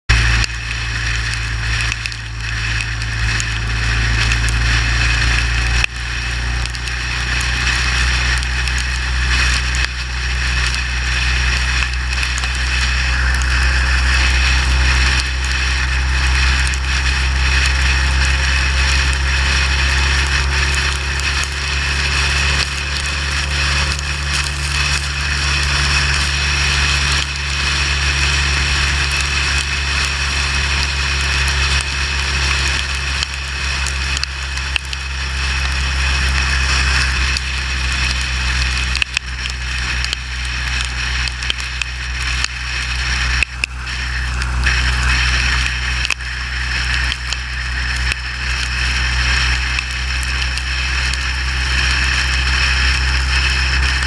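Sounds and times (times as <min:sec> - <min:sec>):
motorcycle engine drone: 0:00.0 - 0:54.0
rain crackling on motorcycle: 0:00.1 - 0:54.0
wind: 0:00.1 - 0:54.0.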